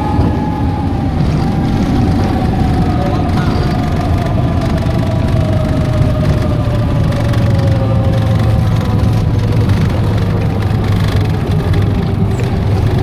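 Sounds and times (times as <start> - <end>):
light aircraft propeller engine drone: 0.0 - 13.0.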